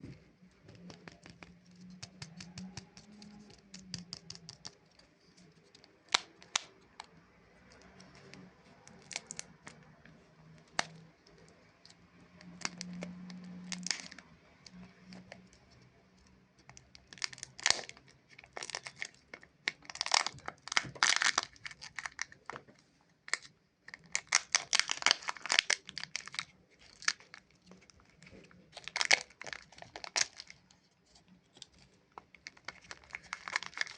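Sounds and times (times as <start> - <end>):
plastic wrapper crinkling and tearing: 0.8 - 15.7, 16.6 - 33.9.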